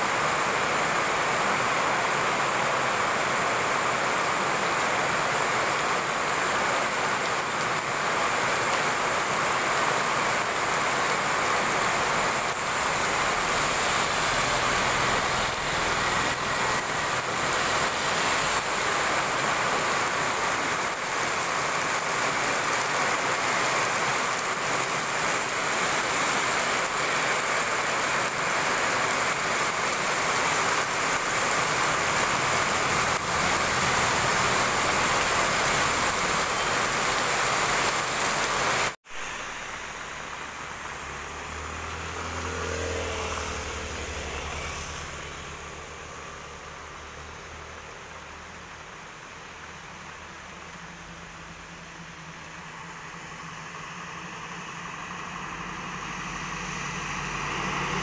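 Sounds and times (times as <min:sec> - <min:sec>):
car tyres swishing on wet road: 0:00.0 - 0:58.0
heavy rain pouring: 0:00.0 - 0:58.0.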